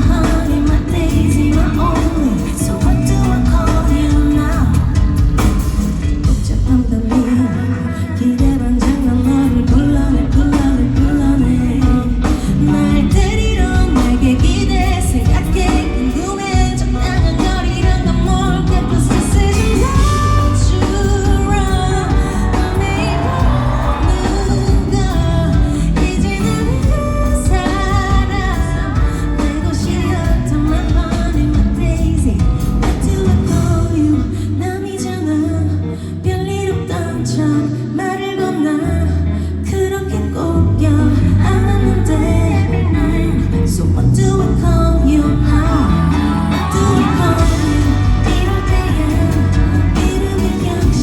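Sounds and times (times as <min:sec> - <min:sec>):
full band playing: 0:00.0 - 0:51.0
woman singing lead: 0:00.0 - 0:51.0.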